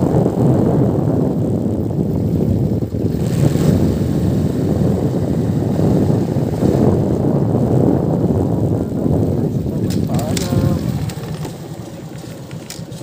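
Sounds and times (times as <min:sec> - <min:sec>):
motorcycle engine: 0:00.0 - 0:13.0
road noise: 0:00.0 - 0:13.0
wind rumble on microphone: 0:00.0 - 0:13.0.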